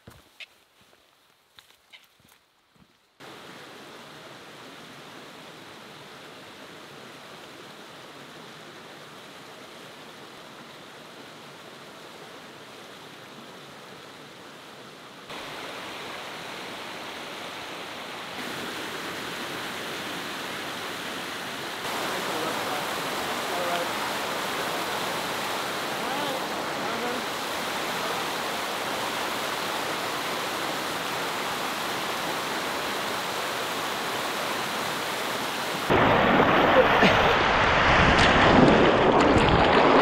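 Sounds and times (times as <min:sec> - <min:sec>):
waterfall rushing over rock: 0:03.2 - 0:40.0.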